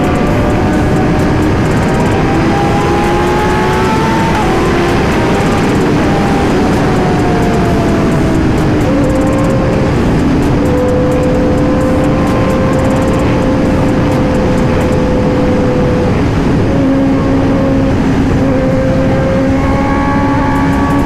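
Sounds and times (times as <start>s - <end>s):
motorcycle engine cruising: 0.0s - 21.0s
wind noise: 0.0s - 21.0s.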